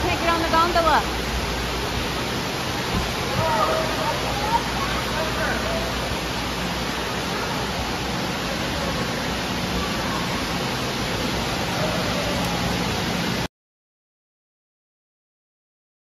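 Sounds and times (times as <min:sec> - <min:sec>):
heavy rain pouring: 0:00.0 - 0:13.5.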